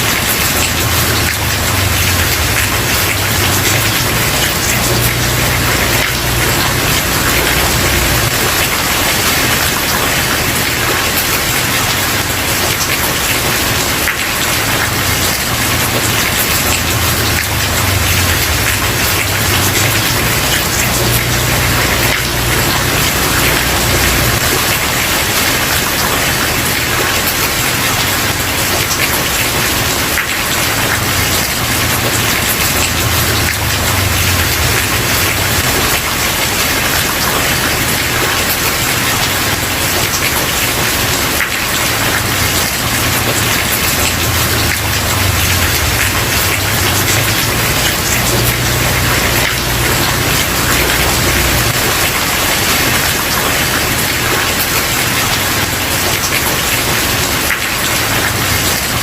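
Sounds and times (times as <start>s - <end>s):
heavy rain on wooden porch: 0.0s - 59.0s.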